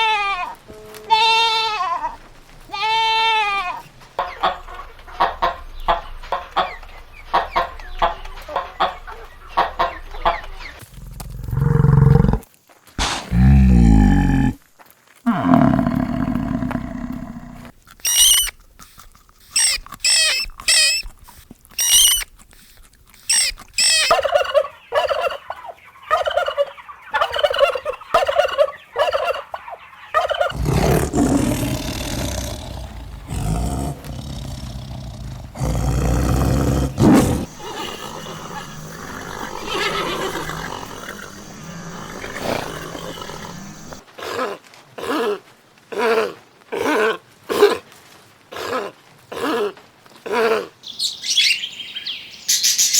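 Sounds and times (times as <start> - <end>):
animal calls: 0.0 - 12.4, 15.3 - 47.8.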